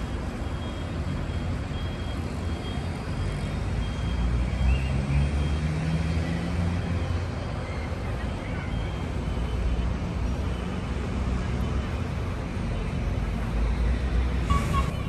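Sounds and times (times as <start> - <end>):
heavy vehicle engine hum: 0.0 - 15.0
road traffic rumble: 0.0 - 15.0.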